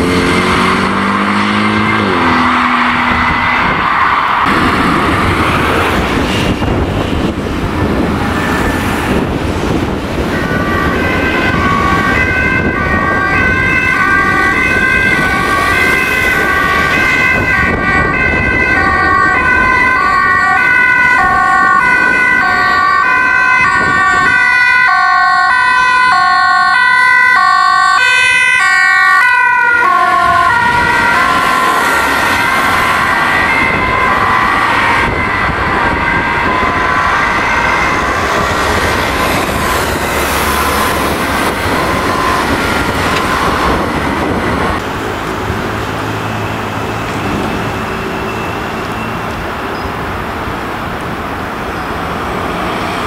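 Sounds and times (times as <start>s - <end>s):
two-tone ambulance siren: 0.0s - 50.8s
traffic noise: 0.0s - 53.0s.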